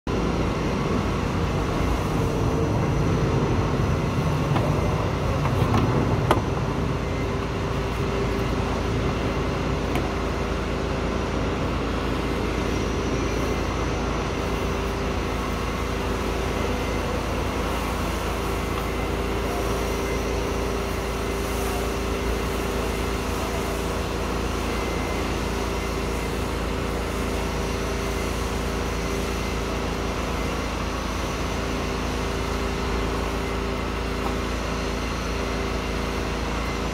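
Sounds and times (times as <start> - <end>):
propane torch flame roaring: 0.1 - 36.9.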